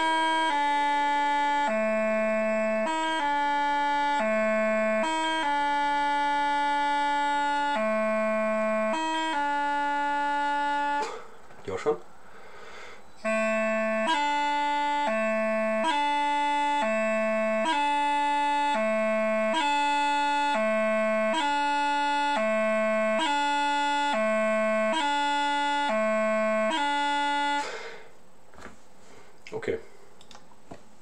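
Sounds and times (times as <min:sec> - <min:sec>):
practice chanter two-note exercise: 0:00.0 - 0:12.1, 0:13.0 - 0:28.1.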